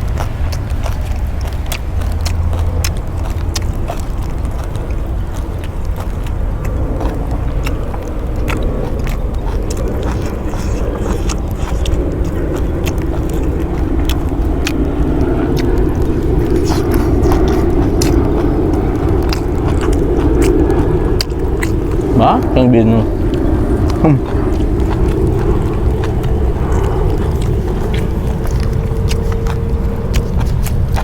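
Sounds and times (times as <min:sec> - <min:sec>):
aircraft droning overhead: 0:00.0 - 0:31.0
person chewing and crunching: 0:00.0 - 0:31.0.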